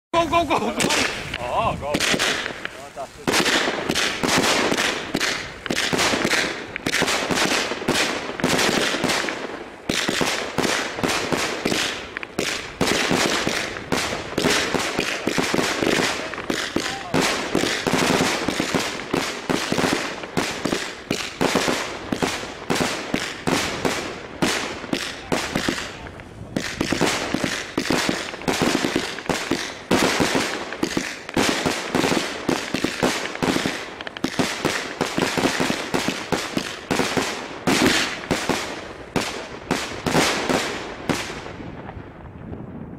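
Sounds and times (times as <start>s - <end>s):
fireworks firing rapid bangs: 0.2s - 42.6s.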